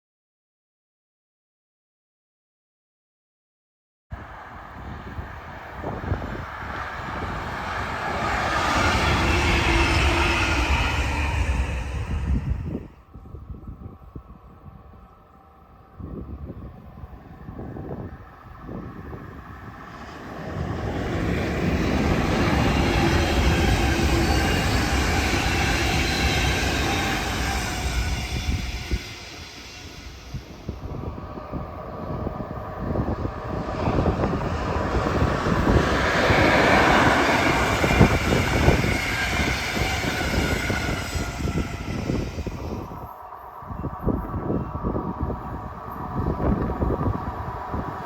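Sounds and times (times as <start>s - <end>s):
trains passing on track: 4.1s - 48.0s.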